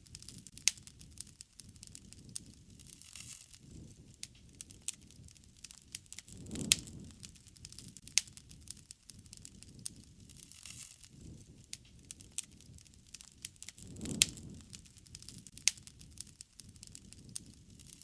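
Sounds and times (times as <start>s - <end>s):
wood campfire crackling: 0.0s - 18.0s.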